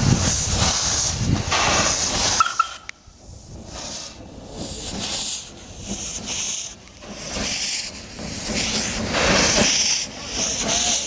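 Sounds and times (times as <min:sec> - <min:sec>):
steam hissing in bursts: 0:00.0 - 0:11.0.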